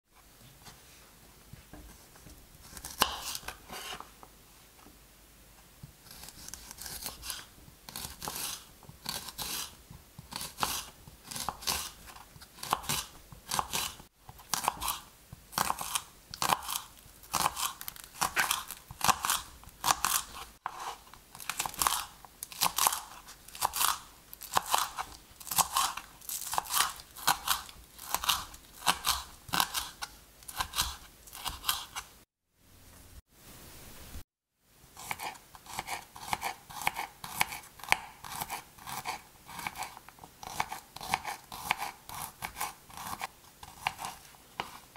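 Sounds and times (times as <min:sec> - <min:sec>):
knife slicing spring onions: 0:02.6 - 0:04.0, 0:06.0 - 0:32.1, 0:35.0 - 0:44.9.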